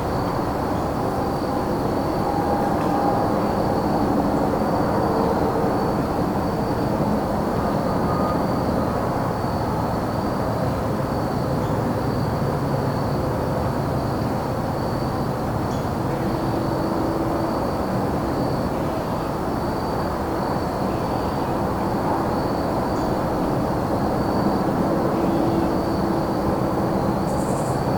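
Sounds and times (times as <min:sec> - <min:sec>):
crickets chirping: 0:00.0 - 0:27.9.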